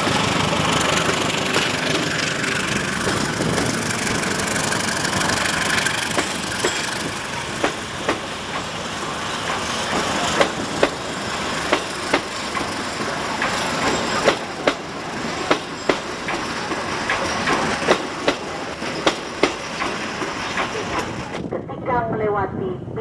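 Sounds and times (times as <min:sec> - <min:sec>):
train wheels clacking: 0:00.0 - 0:21.5
train rolling rumble: 0:00.0 - 0:23.0.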